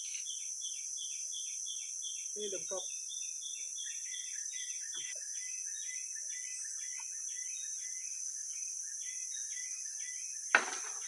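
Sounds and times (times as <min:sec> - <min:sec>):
insect chirps: 0:00.0 - 0:11.0
insects hissing: 0:00.0 - 0:11.0.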